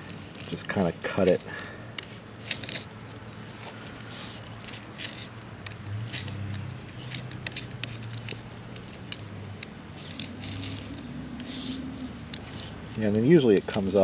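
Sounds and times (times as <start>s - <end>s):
blade cutting fibres and string: 0.0s - 14.0s.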